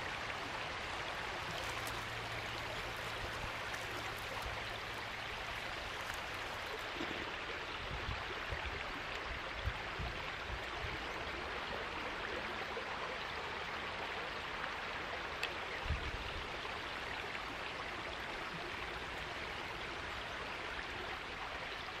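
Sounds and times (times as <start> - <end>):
creek water babbling: 0.0 - 22.0.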